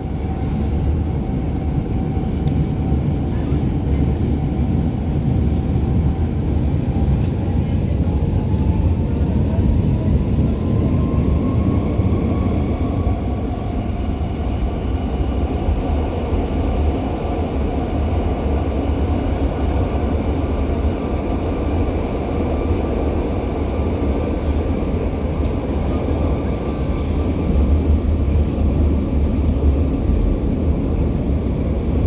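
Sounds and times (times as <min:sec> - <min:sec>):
low rumble of train: 0:00.0 - 0:32.0.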